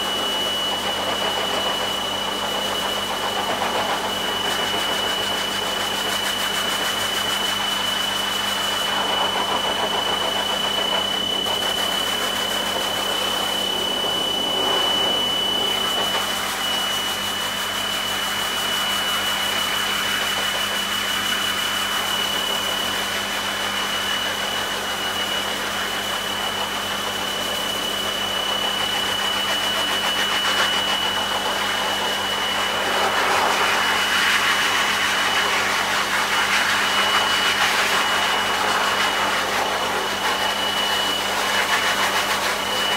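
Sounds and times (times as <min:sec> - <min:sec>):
pet dryer motor whine: 0:00.0 - 0:42.9.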